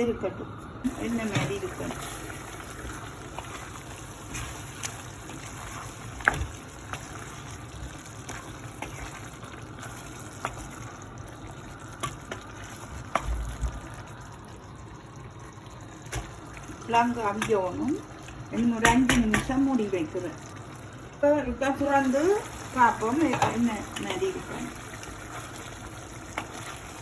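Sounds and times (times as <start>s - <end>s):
curry simmering in pot: 0.5s - 27.0s.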